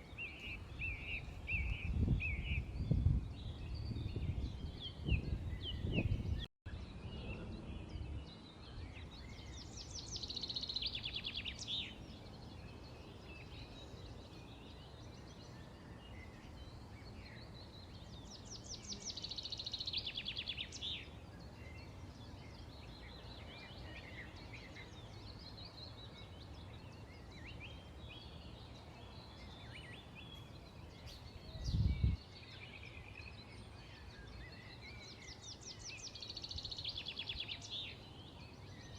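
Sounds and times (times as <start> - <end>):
rapid trilling bird song: 0.0 - 38.9
small birds chirping: 0.0 - 38.9.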